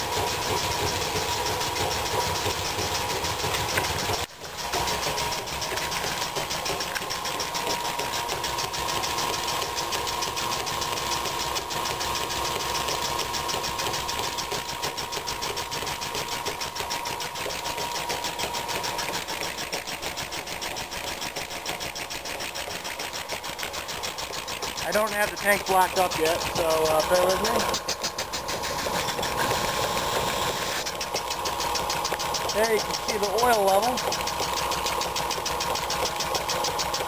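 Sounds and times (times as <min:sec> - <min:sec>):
air compressor pumping: 0:00.0 - 0:37.0
electric motor hum: 0:00.0 - 0:37.0.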